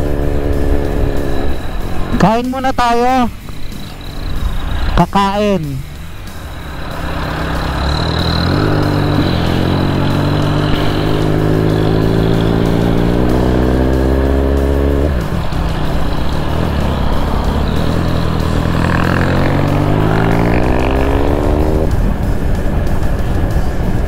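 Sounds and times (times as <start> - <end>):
motorcycle engine accelerating: 0.0 - 2.2, 6.0 - 24.0.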